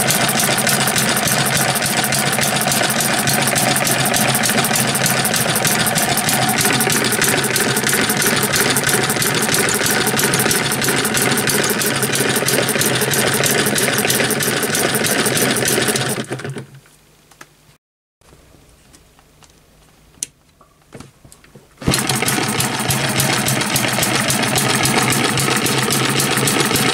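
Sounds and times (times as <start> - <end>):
gas engine clattering: 0.0 - 16.6, 21.8 - 26.9.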